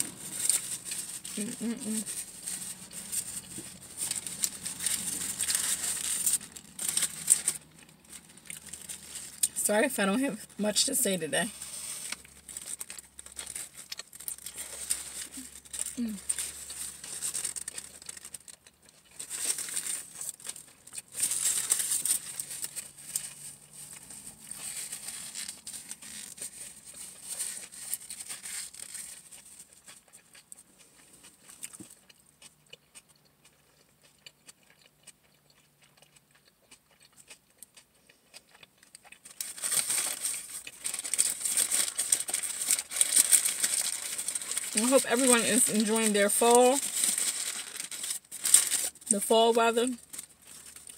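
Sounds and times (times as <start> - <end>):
paper wrapper crinkling: 0.0 - 9.6, 10.8 - 30.4, 39.0 - 50.9.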